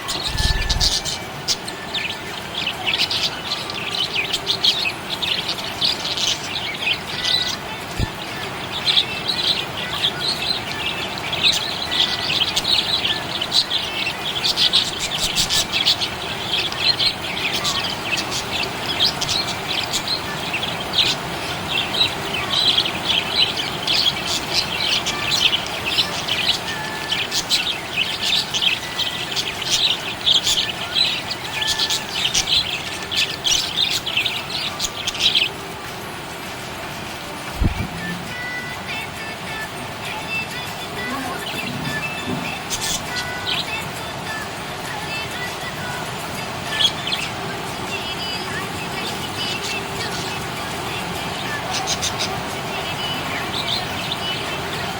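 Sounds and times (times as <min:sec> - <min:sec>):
budgerigars chirping: 0:00.0 - 0:38.7, 0:41.0 - 0:44.4, 0:46.6 - 0:54.9.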